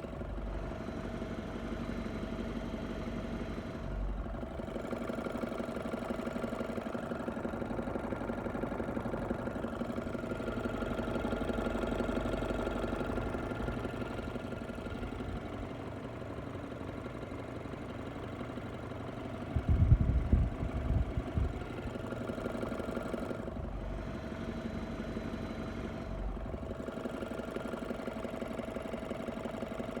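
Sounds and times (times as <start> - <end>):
car engine idling with knock: 0.0 - 30.0.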